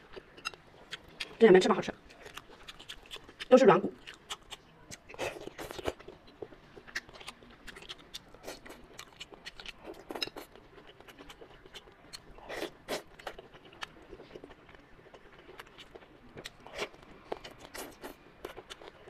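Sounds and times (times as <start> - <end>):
wet chewing and biting: 0.0 - 1.4, 2.0 - 19.0.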